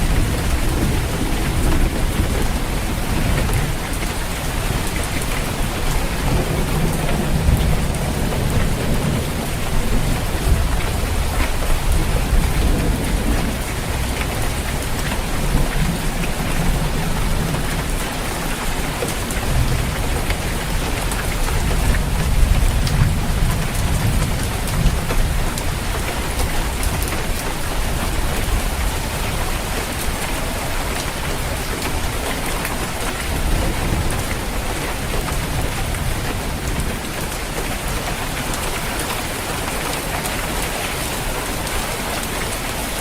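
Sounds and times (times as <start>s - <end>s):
low rolling thunder: 0.0s - 38.6s
heavy rain on a tiled roof: 0.0s - 43.0s.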